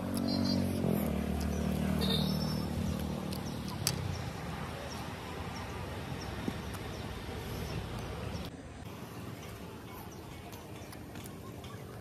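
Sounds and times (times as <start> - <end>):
vehicle engine hum: 0.0 - 10.0.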